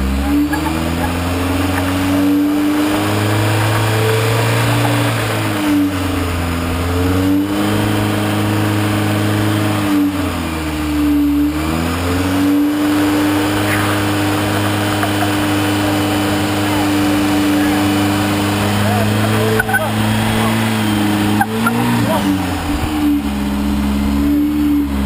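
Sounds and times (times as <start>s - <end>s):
buggy engine revving under load: 0.0s - 25.0s.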